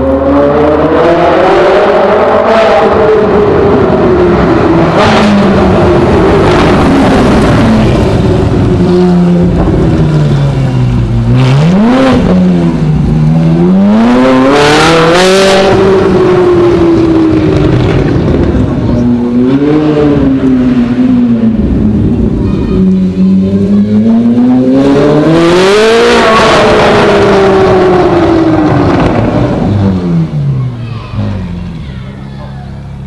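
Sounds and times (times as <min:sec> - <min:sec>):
sports car engine revving: 0:00.0 - 0:31.8.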